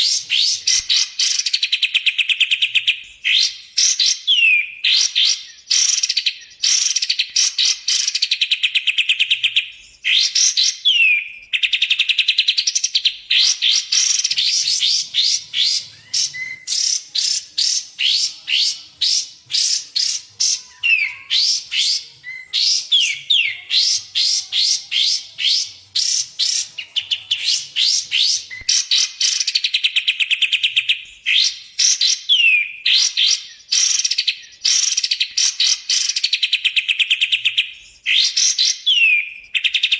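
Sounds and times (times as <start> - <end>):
songbirds trilling and whistling: 0.0 - 39.9.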